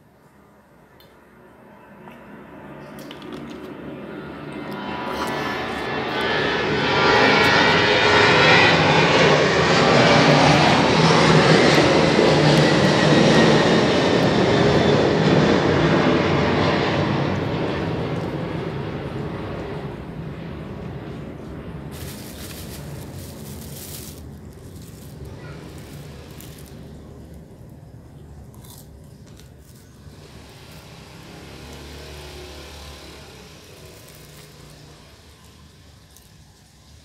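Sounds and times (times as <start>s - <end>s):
passing engine: 3.6s - 28.2s, 29.0s - 36.1s.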